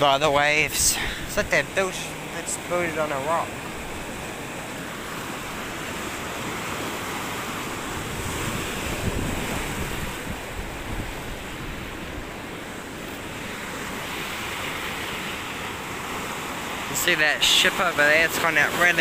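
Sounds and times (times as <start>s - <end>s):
wind buffeting microphone: 0.0s - 17.0s
waves breaking on rocks: 0.0s - 19.0s.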